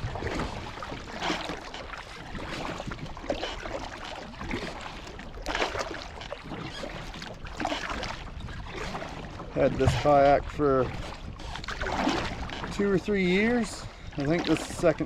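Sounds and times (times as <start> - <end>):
kayak paddle splashing in water: 0.0 - 15.0.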